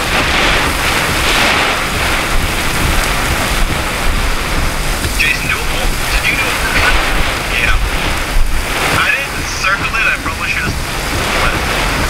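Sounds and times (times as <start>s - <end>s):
heavy rain hissing: 0.0s - 12.0s
wind rumbling: 0.0s - 12.0s.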